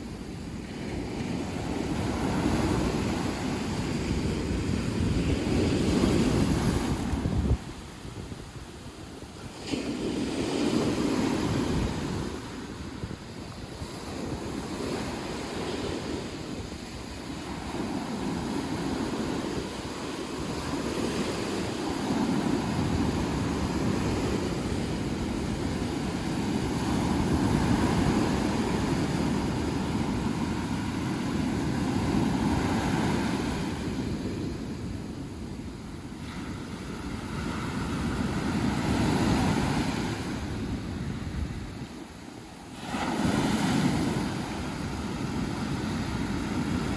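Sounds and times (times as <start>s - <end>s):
sea waves breaking on beach: 0.0s - 46.9s
wind on microphone: 0.0s - 46.9s.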